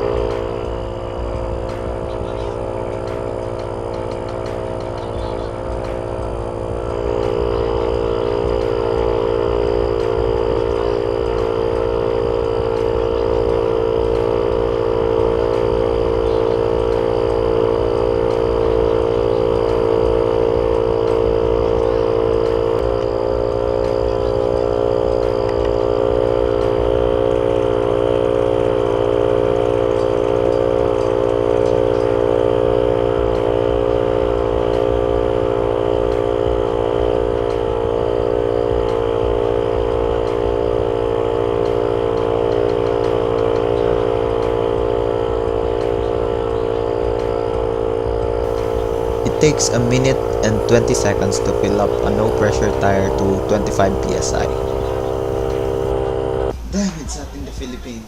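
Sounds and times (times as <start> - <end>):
air compressor droning: 0.0 - 57.9.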